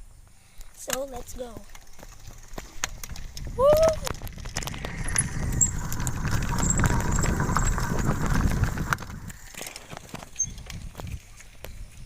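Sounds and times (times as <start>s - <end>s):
bike rattling over rough ground: 0.7s - 12.0s.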